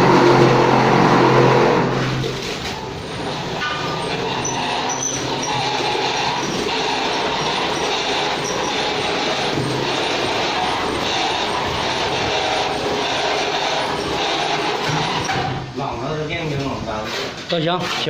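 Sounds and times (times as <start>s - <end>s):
plastering machine running: 0.0s - 18.0s.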